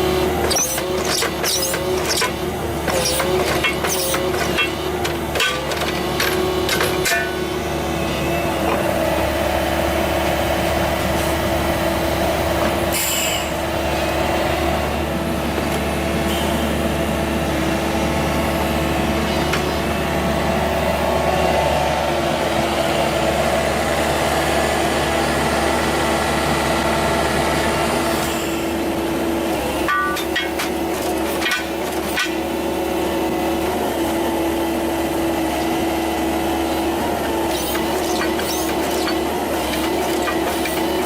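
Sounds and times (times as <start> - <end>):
constant machine whine: 0.0 - 41.0
heavy machinery engine drone: 0.0 - 41.0.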